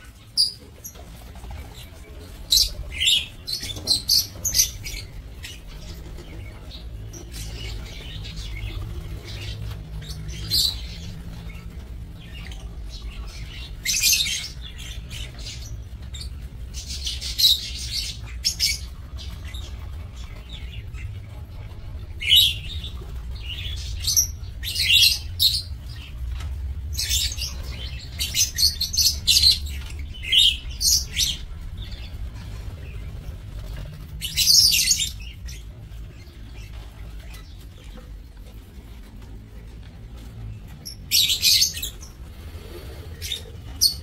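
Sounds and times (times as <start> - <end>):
lovebirds chirping: 0.0 - 44.0
low steady rumble: 0.0 - 44.0.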